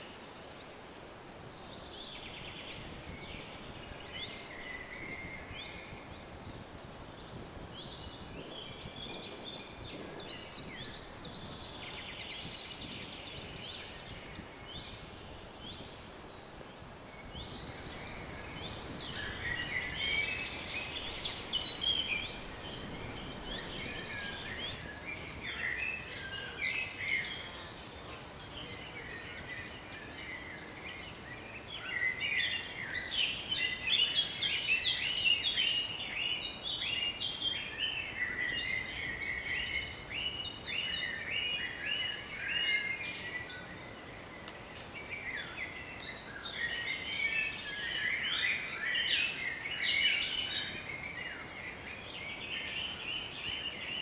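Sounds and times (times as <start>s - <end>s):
faint low wind rumble: 0.0s - 54.0s
songbirds chirping and singing: 1.4s - 54.0s.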